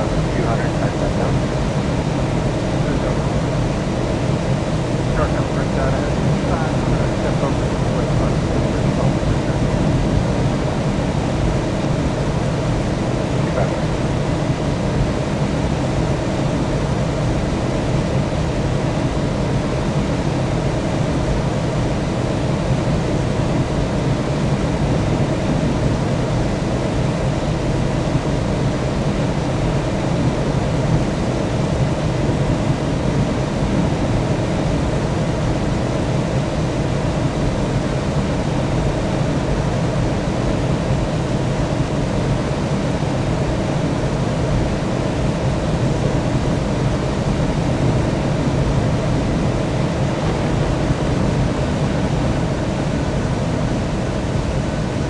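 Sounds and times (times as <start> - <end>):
jet airliner drone: 0.0 - 55.0.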